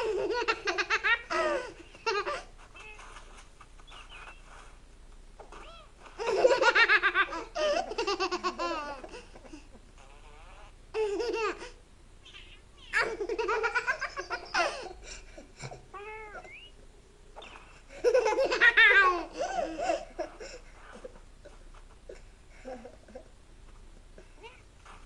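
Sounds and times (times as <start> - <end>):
baby laughing: 0.0 - 3.3, 5.4 - 16.7, 17.4 - 23.3.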